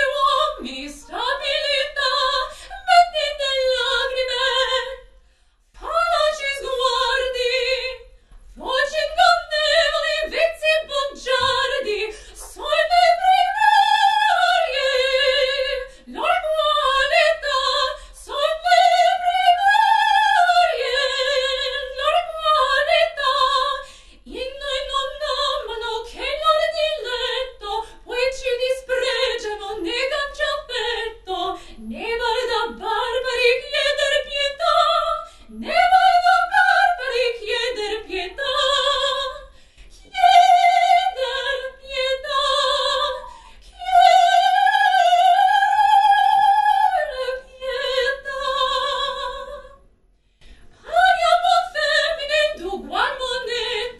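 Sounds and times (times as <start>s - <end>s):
woman singing opera: 0.0s - 5.0s, 5.8s - 49.8s, 50.8s - 53.9s.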